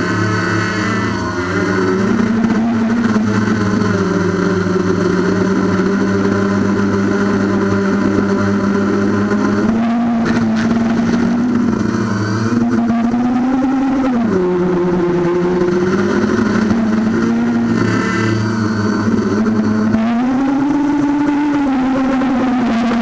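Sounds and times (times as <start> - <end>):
quadcopter propellers buzzing: 0.0 - 23.0.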